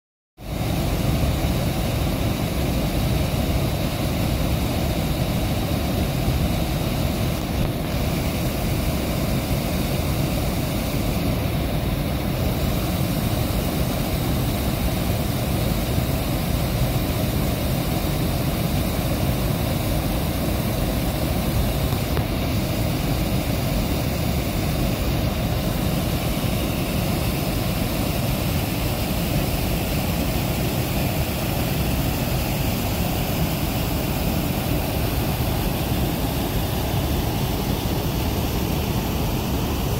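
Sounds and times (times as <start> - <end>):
water rushing over a weir: 0.4 - 39.9.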